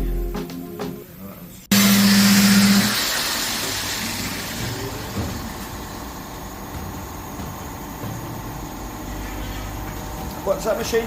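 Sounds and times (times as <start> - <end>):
workshop machinery humming: 0.0 - 11.0.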